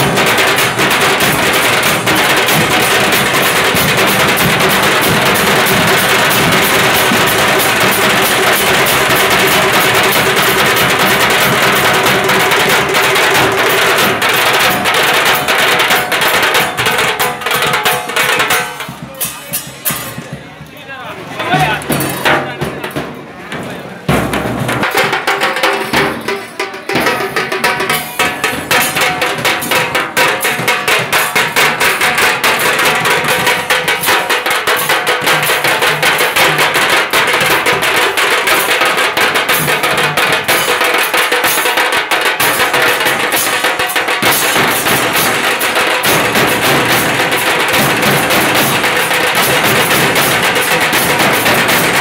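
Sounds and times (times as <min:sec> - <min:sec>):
large drums beaten fast: 0:00.0 - 0:20.6, 0:21.4 - 0:52.0.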